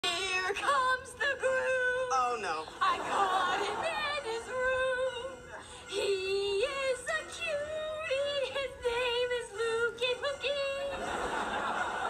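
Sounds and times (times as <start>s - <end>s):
girl singing through speakers: 0.0s - 2.1s, 3.0s - 11.0s.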